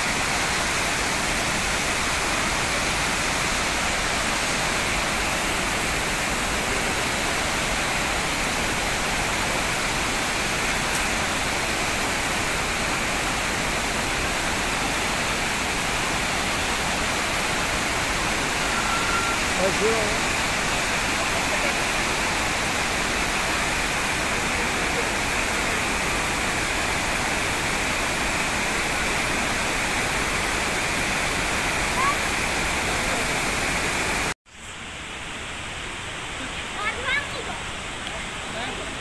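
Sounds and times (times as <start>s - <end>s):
river water rushing: 0.0s - 39.0s
waterfall roaring: 0.0s - 39.0s.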